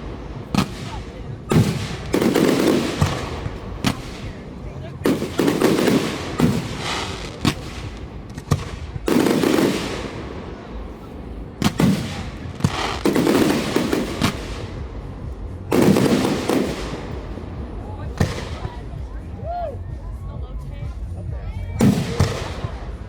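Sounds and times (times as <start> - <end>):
fireworks bursting: 0.0 - 19.2, 21.8 - 23.0.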